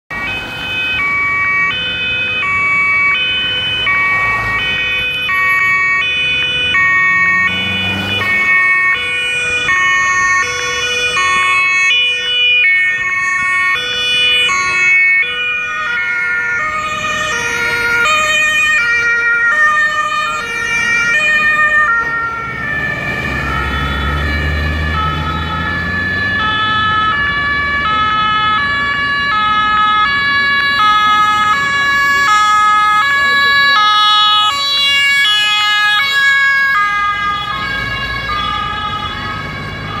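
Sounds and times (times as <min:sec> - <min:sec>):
two-tone police sirens: 0:00.1 - 0:40.0
vehicle engine rumble: 0:00.1 - 0:40.0.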